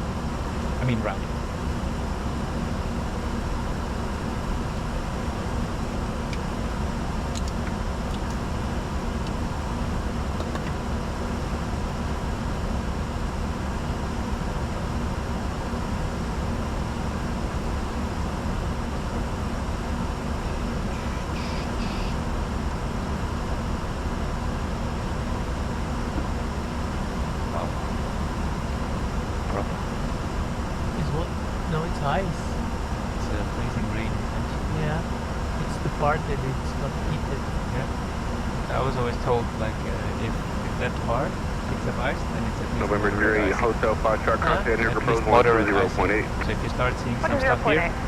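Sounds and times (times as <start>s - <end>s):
low rumble and hum: 0.0s - 48.0s.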